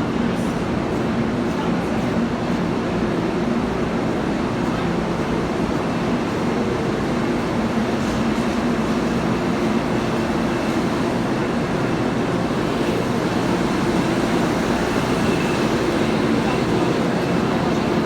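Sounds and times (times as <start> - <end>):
electric train hum: 0.0 - 18.0.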